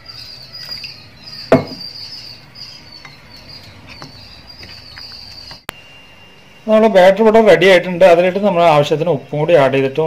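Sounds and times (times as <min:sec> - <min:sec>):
high-pitched chirping: 0:00.0 - 0:09.3.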